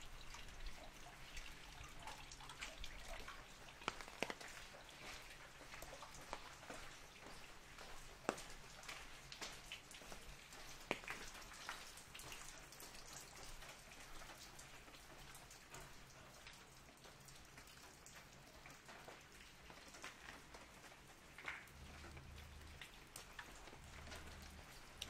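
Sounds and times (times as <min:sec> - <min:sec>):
rain pattering on umbrella: 0:00.0 - 0:25.0.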